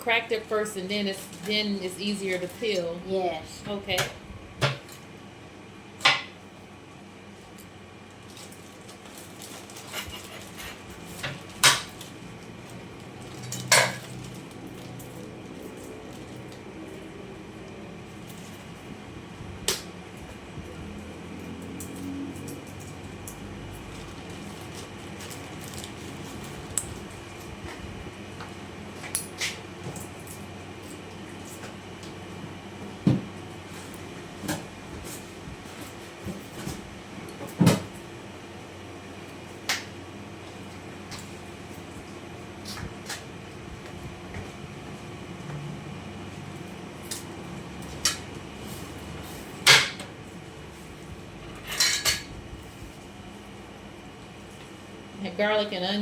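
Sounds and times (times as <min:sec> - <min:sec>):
background hum: 0:00.0 - 0:56.0.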